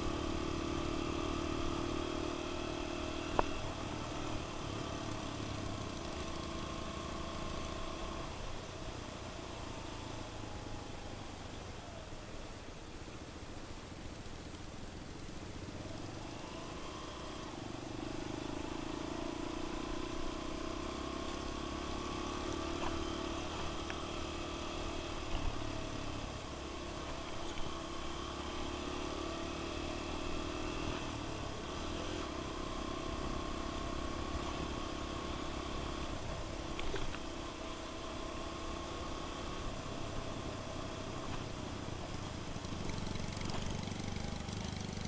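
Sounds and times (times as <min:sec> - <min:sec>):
motorcycle engine running: 0:00.0 - 0:12.0, 0:14.2 - 0:45.0.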